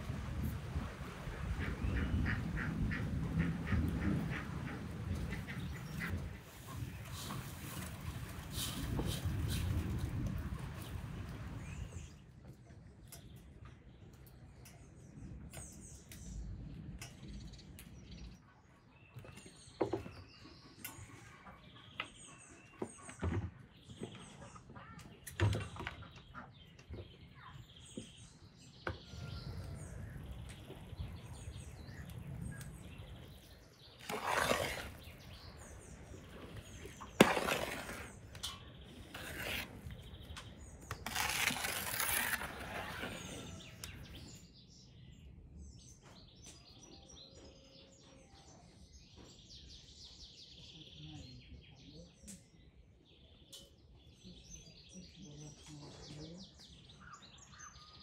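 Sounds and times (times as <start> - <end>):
birds chirping: 1.2 - 9.8, 10.7 - 58.0.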